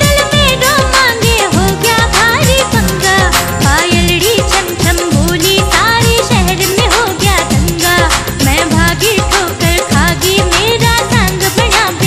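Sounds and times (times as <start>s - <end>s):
folk-pop song: 0.0s - 12.0s
quick drum beat: 0.0s - 12.0s.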